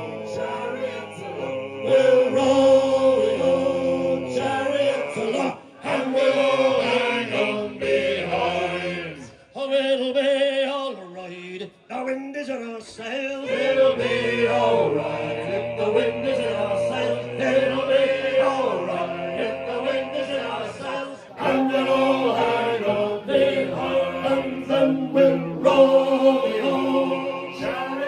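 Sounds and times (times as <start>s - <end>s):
men singing a sea shanty: 0.0s - 11.7s, 13.0s - 28.0s.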